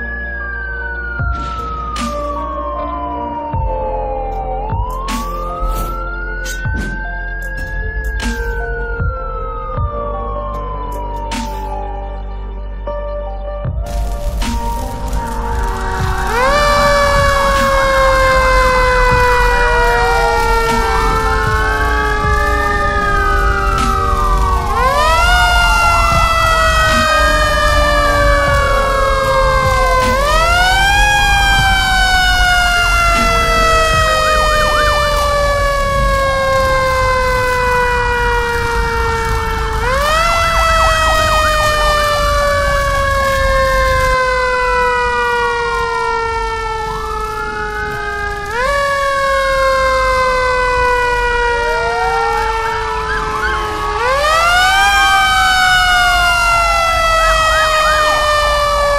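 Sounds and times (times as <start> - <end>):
second fire engine siren: 0.0 - 12.6, 13.6 - 58.9
fire engine siren wailing: 0.0 - 58.9.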